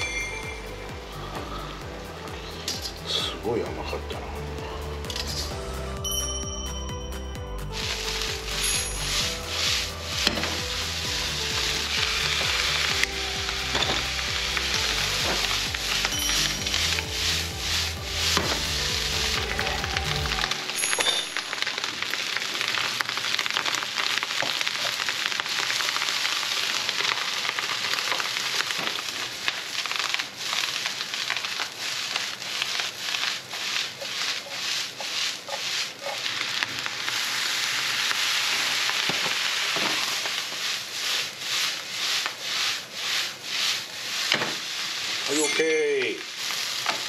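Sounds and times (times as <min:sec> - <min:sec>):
cabbage sizzling in a frying pan: 0:07.1 - 0:47.0.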